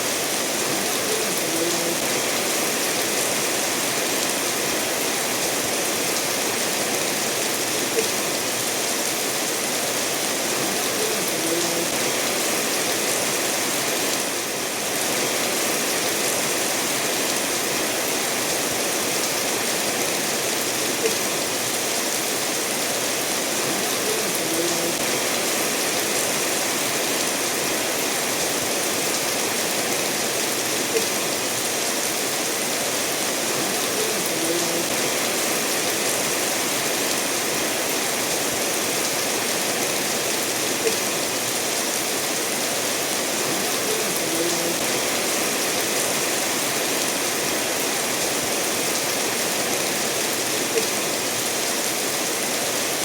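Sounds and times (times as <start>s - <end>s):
steady rain: 0.0s - 53.0s
stream running over stones: 0.0s - 53.0s.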